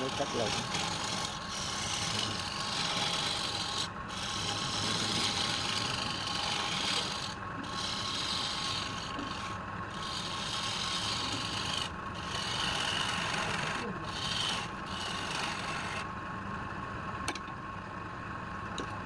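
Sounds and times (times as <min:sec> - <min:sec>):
lathe tool rasping on wood: 0:00.0 - 0:16.1.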